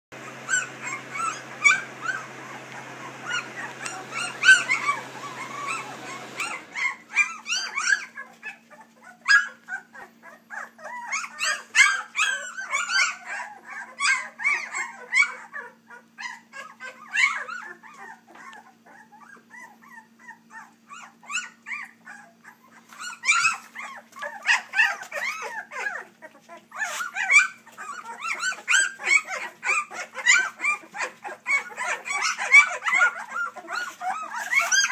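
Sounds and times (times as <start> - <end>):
puppies crying: 0.2 - 34.9.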